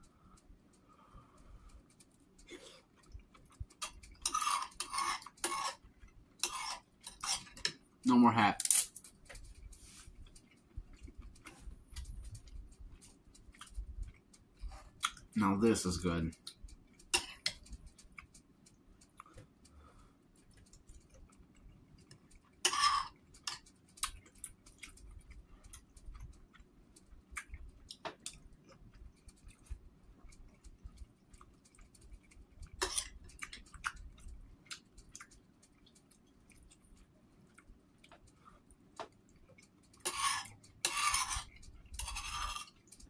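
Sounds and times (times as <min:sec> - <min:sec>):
small clicks and taps: 0:00.0 - 0:04.3, 0:08.6 - 0:15.4, 0:16.0 - 0:22.6, 0:23.2 - 0:40.8
person chewing: 0:00.0 - 0:08.0, 0:09.2 - 0:15.4, 0:16.4 - 0:43.0.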